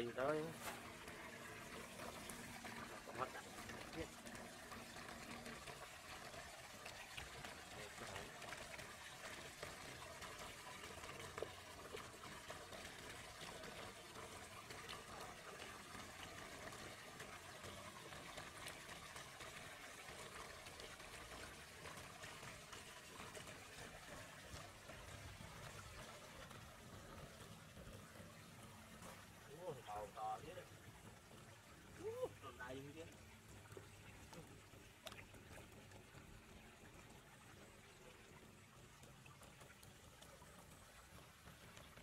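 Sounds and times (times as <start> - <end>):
water trickling and splashing: 0.0 - 42.0.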